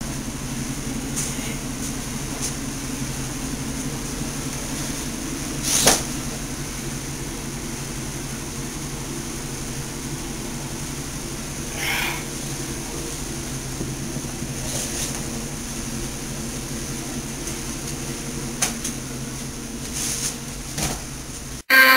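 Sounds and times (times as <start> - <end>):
low hum and hiss: 0.0 - 21.6.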